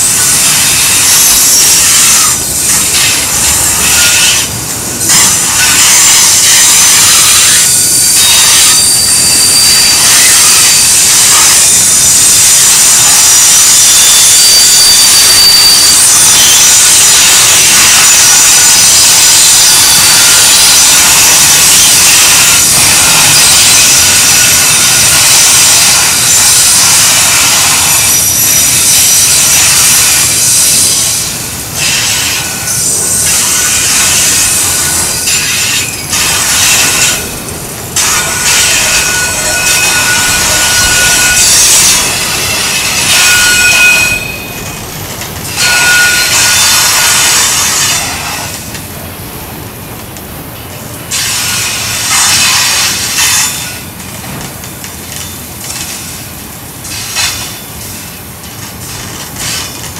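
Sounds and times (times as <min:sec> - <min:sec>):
thin wheel squeal: 0:00.0 - 0:48.6, 0:51.1 - 0:54.0
train wheels grinding on rails: 0:00.0 - 0:59.9.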